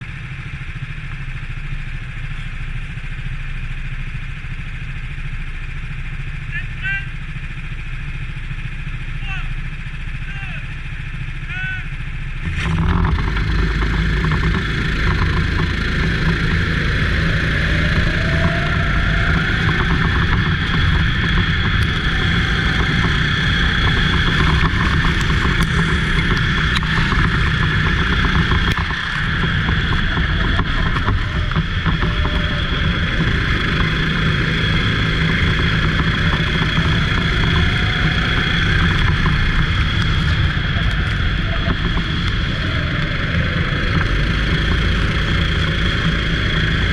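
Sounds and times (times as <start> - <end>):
continuous rushing noise: 0.0 - 46.9
go-kart engine revving: 0.0 - 46.9.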